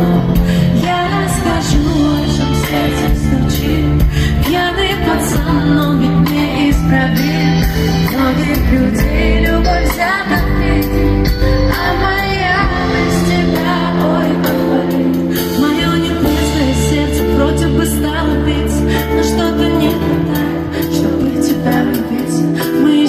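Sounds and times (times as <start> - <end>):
live pop music with singing: 0.0 - 23.0.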